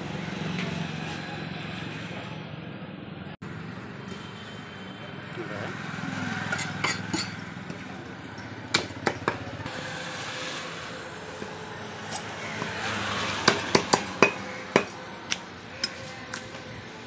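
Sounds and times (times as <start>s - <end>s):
low street background: 0.0s - 17.0s.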